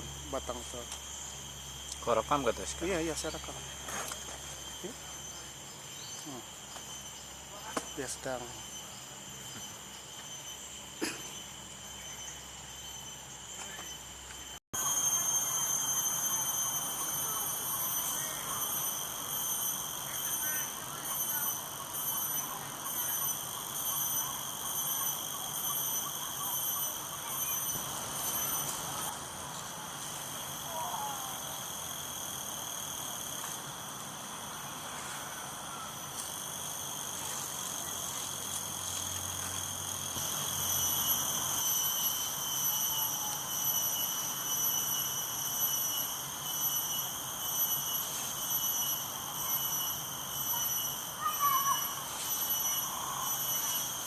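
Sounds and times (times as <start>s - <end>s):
insects pulsing drone: 0.0s - 54.0s.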